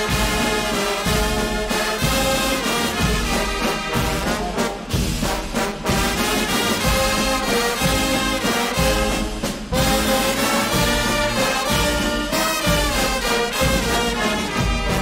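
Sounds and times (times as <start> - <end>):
brass band music: 0.0 - 15.0.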